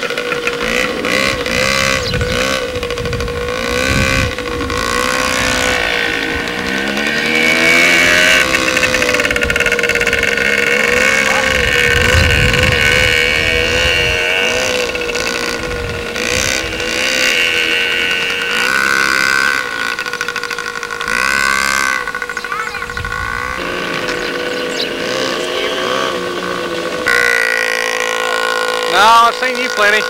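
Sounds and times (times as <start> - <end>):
small engines droning: 0.0 - 30.0.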